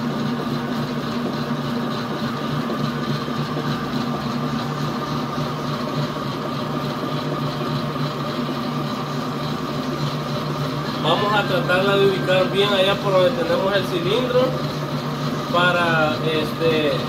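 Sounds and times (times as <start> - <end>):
stand mixer running: 0.0 - 17.0.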